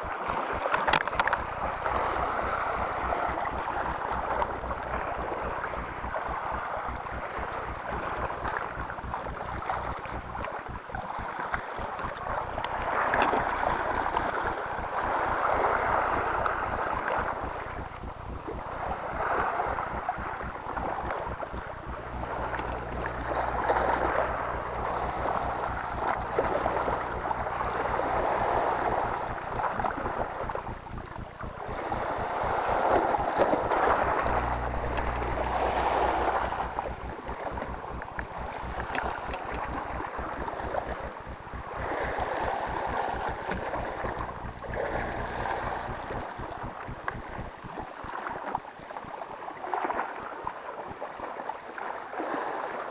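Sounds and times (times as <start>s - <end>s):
wind rumbling on microphone: 0.0s - 51.2s
sea waves washing against rocks: 0.0s - 52.9s.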